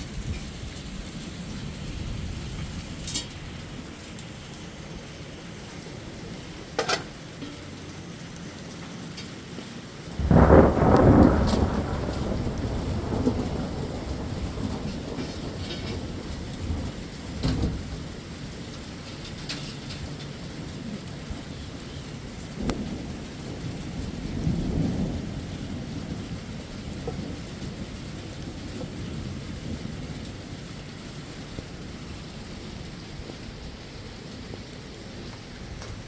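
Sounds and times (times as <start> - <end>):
thunder rumbling: 0.0 - 7.3, 9.9 - 36.0
steady rain: 0.0 - 36.0.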